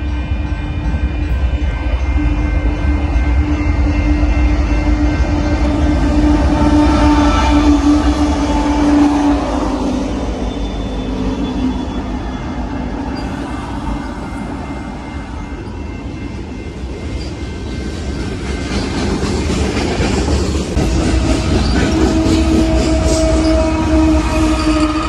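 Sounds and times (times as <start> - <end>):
diesel locomotive engine: 0.0 - 25.0
freight cars wheel and rail noise: 0.0 - 25.0.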